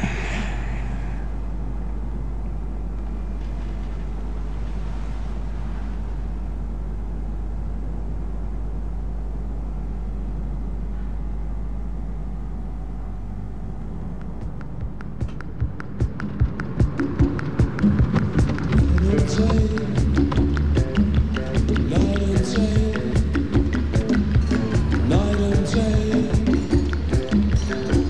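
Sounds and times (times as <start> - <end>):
low rumble and hum: 0.0 - 28.0.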